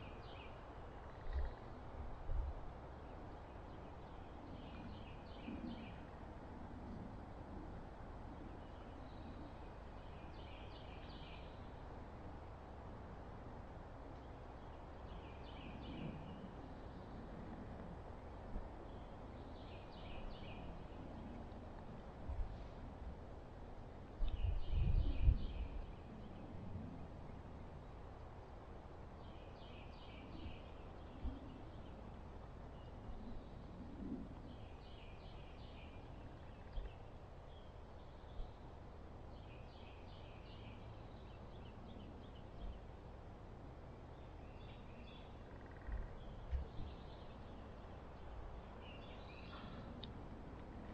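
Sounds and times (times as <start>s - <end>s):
songbird singing: 0.0s - 1.9s, 2.9s - 6.2s, 8.3s - 11.9s, 14.1s - 17.9s, 18.6s - 21.9s, 24.0s - 28.1s, 29.0s - 50.9s
outdoor background noise: 0.0s - 50.9s.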